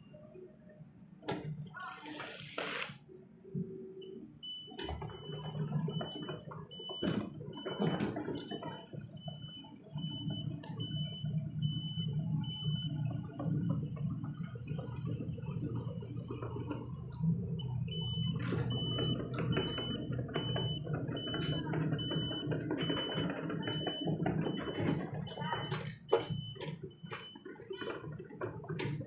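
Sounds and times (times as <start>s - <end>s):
excavator diesel engine running: 3.5s - 29.0s.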